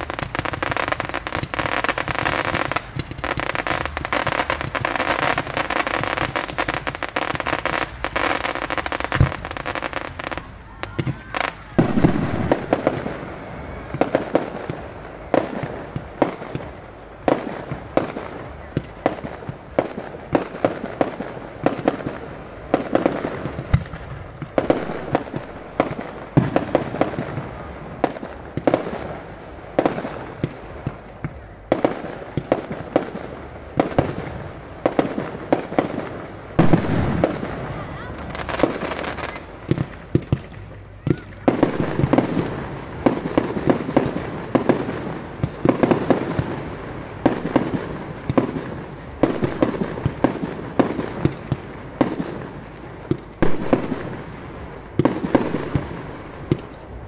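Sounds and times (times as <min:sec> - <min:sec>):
fireworks crackling and hissing: 0:00.0 - 0:57.0.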